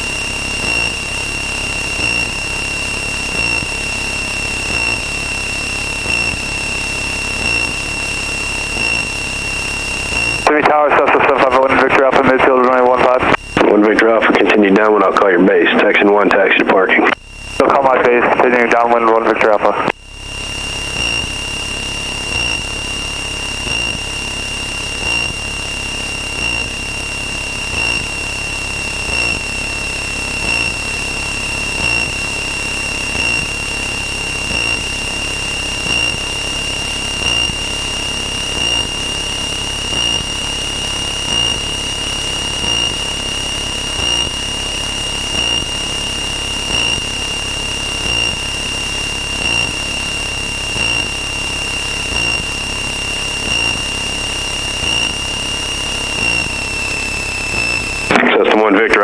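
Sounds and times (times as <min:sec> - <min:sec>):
high-pitched whine: 0:00.0 - 0:59.0.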